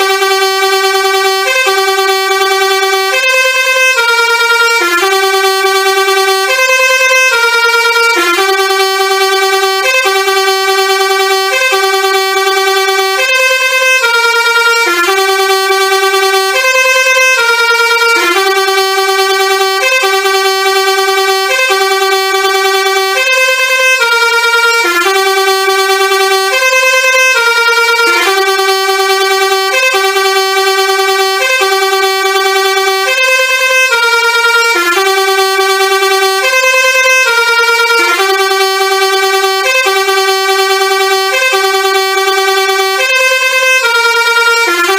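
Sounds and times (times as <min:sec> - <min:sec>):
musical air horn playing a tune: 0:00.0 - 0:44.9.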